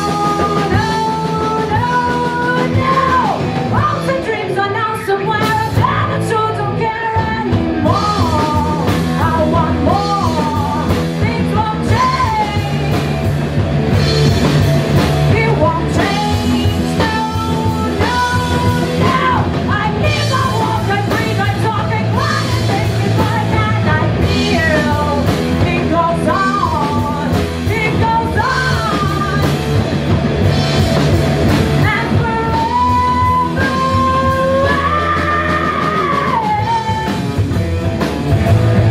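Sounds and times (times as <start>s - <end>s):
person singing: 0.0s - 13.2s, 15.2s - 29.6s, 31.8s - 37.3s
bass guitar: 0.0s - 38.9s
distorted electric guitar: 0.0s - 38.9s
drum kit: 0.0s - 38.9s.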